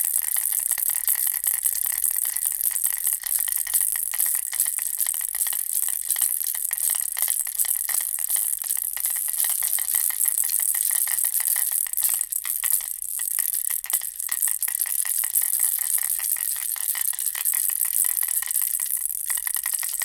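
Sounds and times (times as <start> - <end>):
baby rattle shaken: 0.2 - 20.0.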